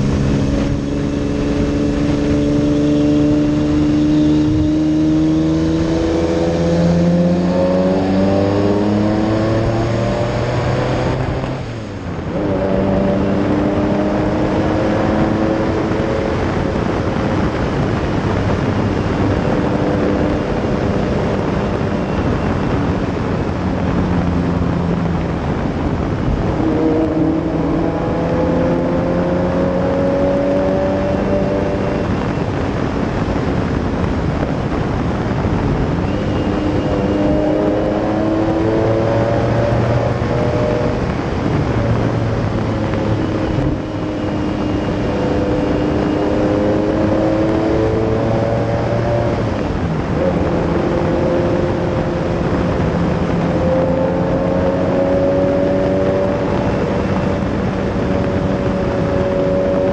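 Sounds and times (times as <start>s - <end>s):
road noise: 0.0s - 59.9s
sports car engine revving: 0.0s - 59.9s
wind noise: 0.0s - 59.9s.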